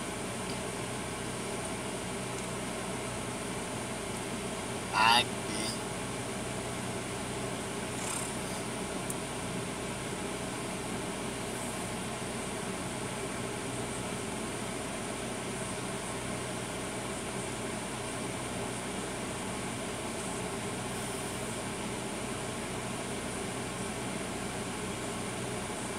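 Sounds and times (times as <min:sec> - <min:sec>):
truck engine hum: 0:00.0 - 0:25.9.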